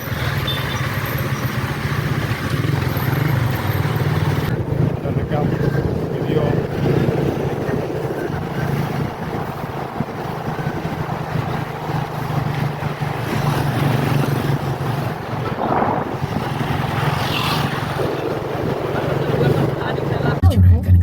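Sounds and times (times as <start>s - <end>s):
ship engines droning: 0.0s - 20.4s
wind rushing over microphone: 1.2s - 20.4s.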